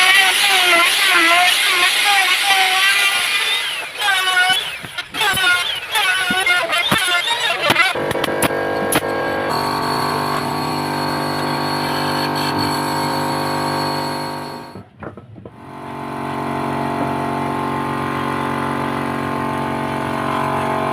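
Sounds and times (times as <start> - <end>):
electric wood router whining: 0.0 - 14.9, 15.5 - 20.9.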